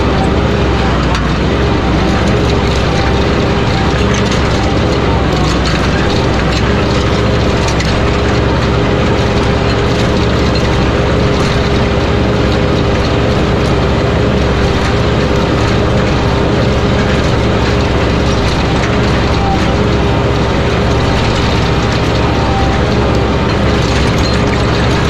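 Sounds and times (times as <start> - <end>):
light rattles from hitch and plow: 0.0 - 25.0
tractor diesel engine running: 0.0 - 25.0.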